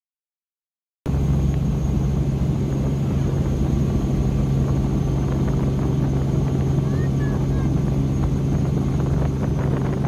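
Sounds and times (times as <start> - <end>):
helicopter engine and rotor drone: 1.1 - 10.0.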